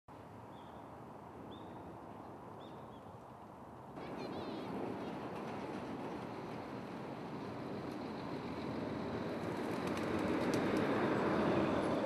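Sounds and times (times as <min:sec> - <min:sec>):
distant road traffic hum: 0:00.1 - 0:12.0.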